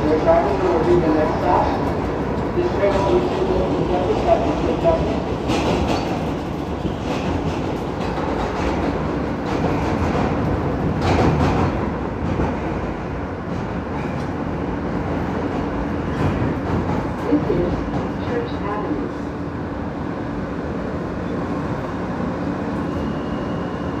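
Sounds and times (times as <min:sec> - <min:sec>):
subway car wheels rumbling on rail: 0:00.0 - 0:24.0.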